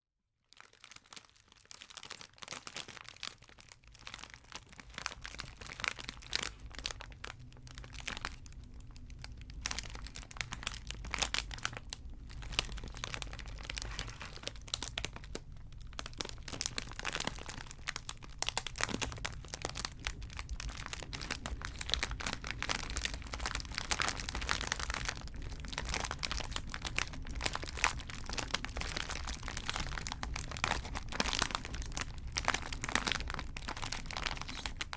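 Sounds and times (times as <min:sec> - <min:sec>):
wrappers crinkling: 0:00.5 - 0:34.9.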